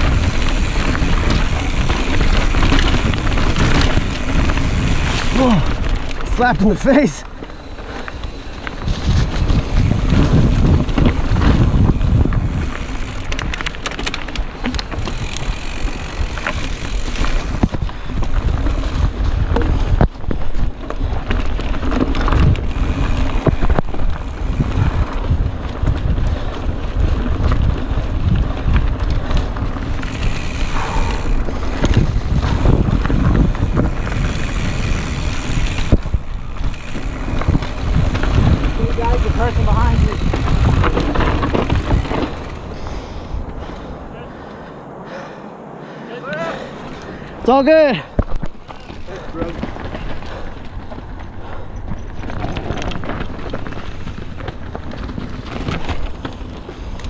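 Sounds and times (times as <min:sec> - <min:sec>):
bike rattling over rocks: 0:00.0 - 0:44.4, 0:46.3 - 0:57.0
wind buffeting microphone: 0:00.0 - 0:57.0.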